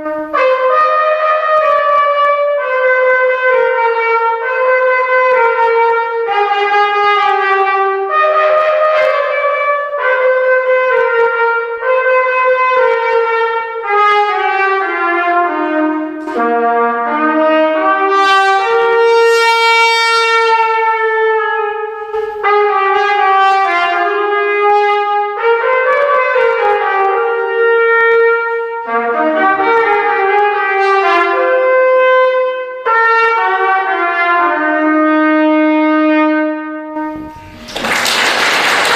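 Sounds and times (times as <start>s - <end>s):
solo trumpet melody: 0.0s - 38.9s.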